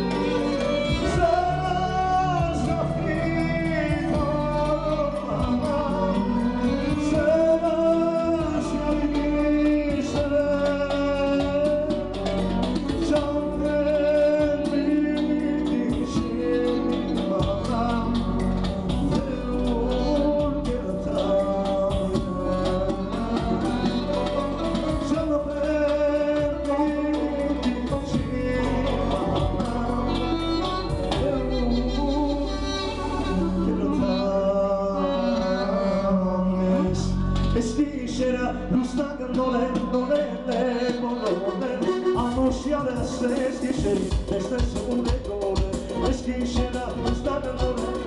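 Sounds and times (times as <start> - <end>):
frame drum: 0.0 - 32.2, 39.3 - 48.0
bass: 0.0 - 48.0
duduk melody: 0.0 - 48.0
man singing: 0.0 - 48.0.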